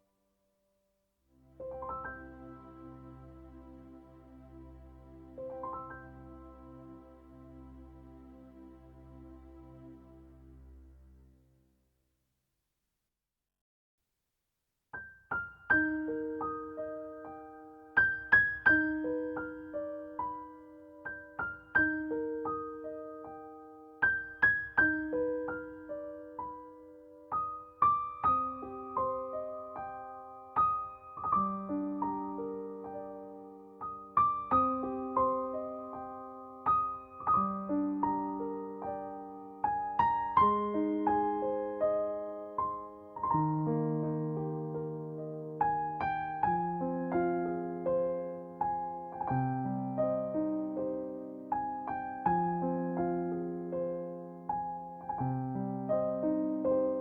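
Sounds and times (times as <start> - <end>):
gentle piano melody: 1.3 - 11.4, 15.0 - 57.0.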